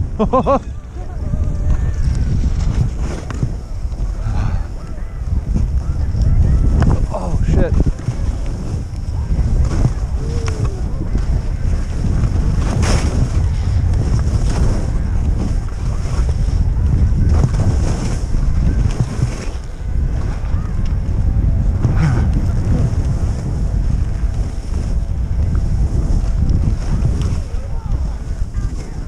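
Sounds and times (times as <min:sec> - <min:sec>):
wind buffeting microphone: 0:00.0 - 0:29.0
skis swishing through snow: 0:00.8 - 0:29.0.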